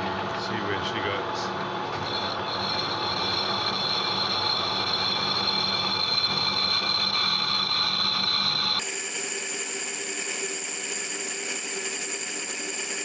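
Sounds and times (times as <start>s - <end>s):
lathe motor hum: 0.0s - 13.0s
high-pitched cutting whine: 2.0s - 13.0s
metal cutting noise: 2.0s - 13.0s.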